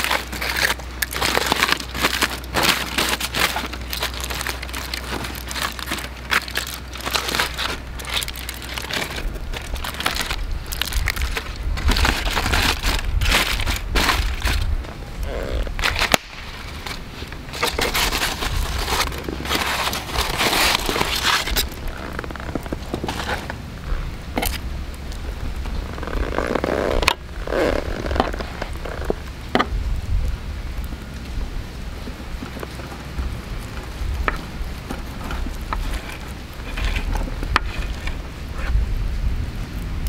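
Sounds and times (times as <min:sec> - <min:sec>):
aluminium foil crinkling: 0:00.0 - 0:29.6, 0:31.9 - 0:38.8
steady low rumble: 0:00.0 - 0:40.0.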